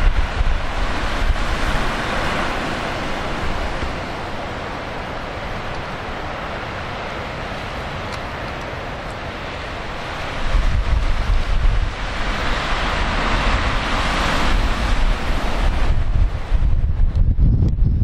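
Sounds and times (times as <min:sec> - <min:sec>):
heavy surf breaking: 0:00.0 - 0:17.4
wind gusting on microphone: 0:00.0 - 0:18.0.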